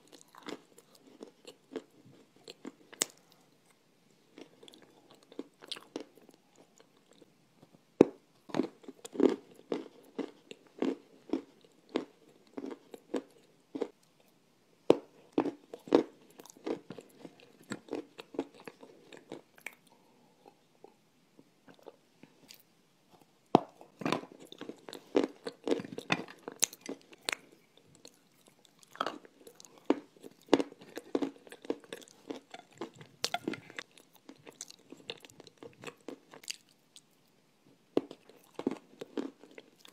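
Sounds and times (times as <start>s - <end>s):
person chewing crunchy clay: 0.0s - 3.4s, 4.3s - 7.3s, 8.0s - 14.1s, 14.9s - 21.0s, 21.7s - 37.2s, 38.0s - 39.9s.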